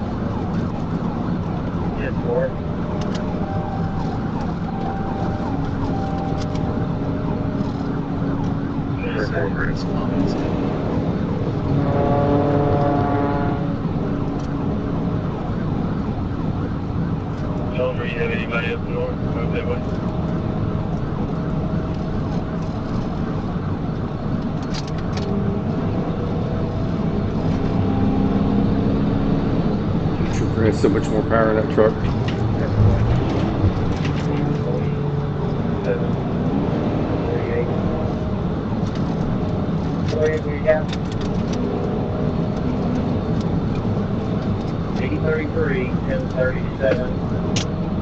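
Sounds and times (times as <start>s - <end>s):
engine and road noise: 0.0s - 48.0s
police siren: 0.0s - 48.0s.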